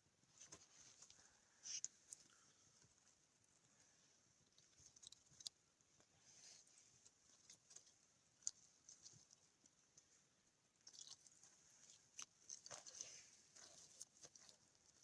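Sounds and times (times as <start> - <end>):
faint ticks and crackles: 0.0 - 15.0.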